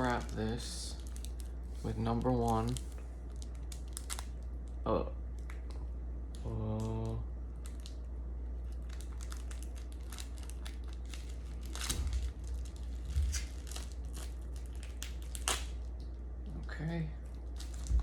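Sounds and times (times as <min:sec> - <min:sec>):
plastic wrapper crinkling and tearing: 0:00.0 - 0:04.8, 0:06.7 - 0:16.2, 0:17.2 - 0:18.0
steady low hum: 0:00.0 - 0:18.0.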